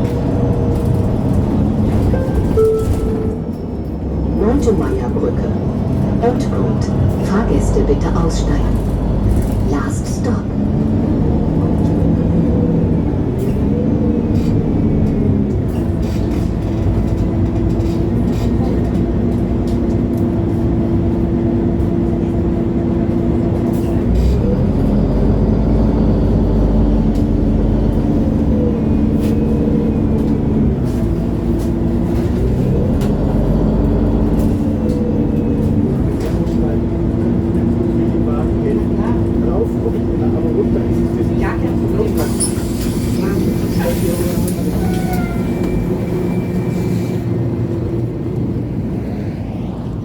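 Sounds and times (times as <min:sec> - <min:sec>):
bus engine running: 0:00.0 - 0:50.0.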